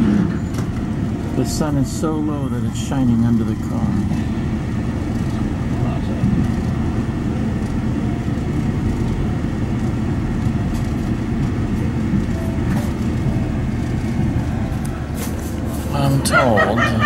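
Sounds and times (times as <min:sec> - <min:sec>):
train car rumbling at speed: 0:00.0 - 0:17.0.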